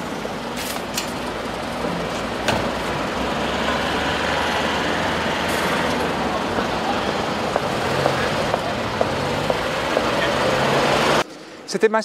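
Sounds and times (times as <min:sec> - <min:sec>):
taxi engine idling: 0:00.0 - 0:11.7
street traffic: 0:00.0 - 0:12.0.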